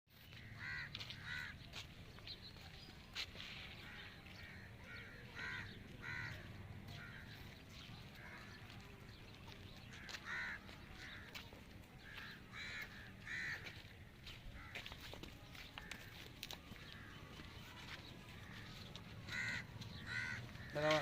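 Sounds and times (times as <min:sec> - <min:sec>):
crows cawing: 0:00.3 - 0:01.8, 0:03.7 - 0:08.8, 0:09.8 - 0:21.0.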